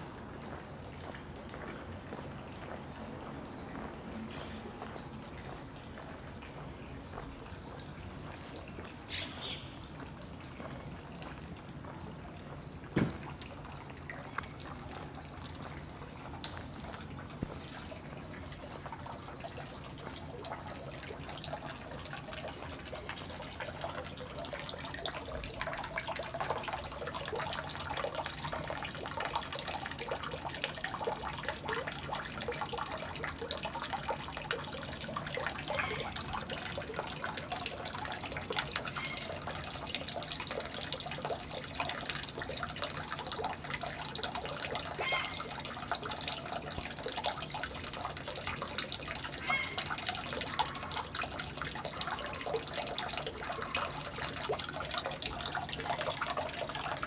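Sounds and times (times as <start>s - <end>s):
water running and splashing: 0.1s - 57.0s.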